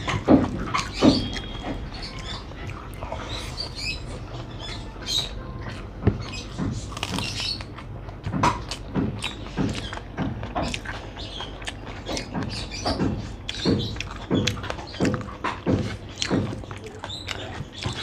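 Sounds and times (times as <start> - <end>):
chewing and wet mouth sounds: 0.0 - 18.0.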